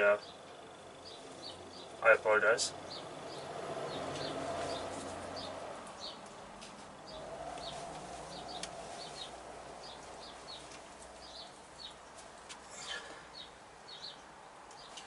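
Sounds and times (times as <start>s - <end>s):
small bird chirping: 0.0s - 2.0s, 2.8s - 6.3s, 7.1s - 12.1s, 12.8s - 15.0s.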